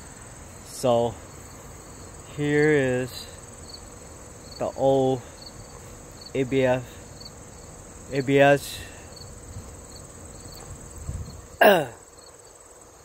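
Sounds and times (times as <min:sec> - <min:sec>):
crickets chirping: 0:00.0 - 0:13.0
high insect buzz: 0:00.0 - 0:13.0.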